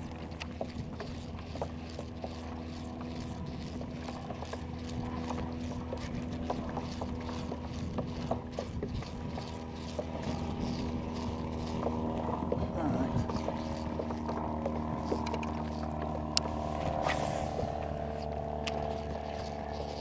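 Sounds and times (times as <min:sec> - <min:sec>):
kayak drive mechanical hum: 0:00.0 - 0:20.0
small irregular ticks: 0:00.2 - 0:16.5, 0:18.2 - 0:20.0.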